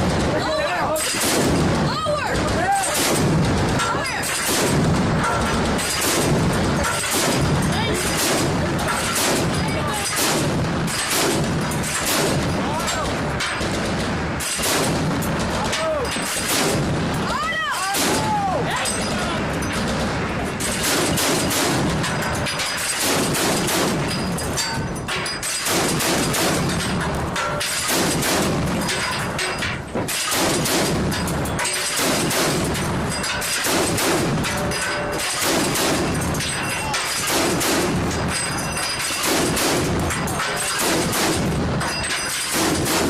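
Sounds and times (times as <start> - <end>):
chain gun firing bursts: 1.0 - 18.3, 19.6 - 43.0.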